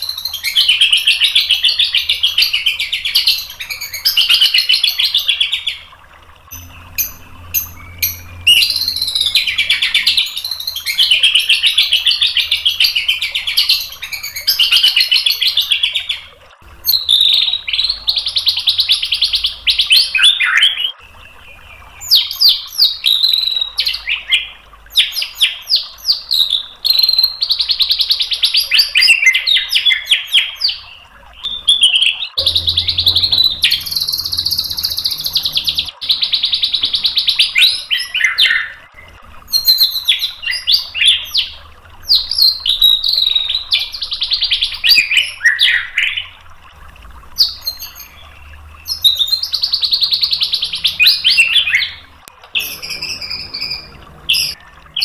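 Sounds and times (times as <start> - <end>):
bird singing trills and whistles: 0.0 - 5.8, 6.5 - 16.2, 16.8 - 46.3, 47.4 - 55.0.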